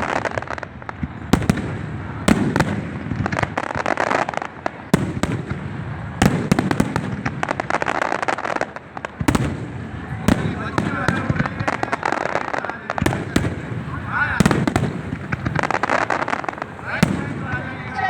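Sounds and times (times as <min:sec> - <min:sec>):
fireworks crackling: 0:00.0 - 0:18.0
fireworks sharp bangs: 0:00.0 - 0:18.0.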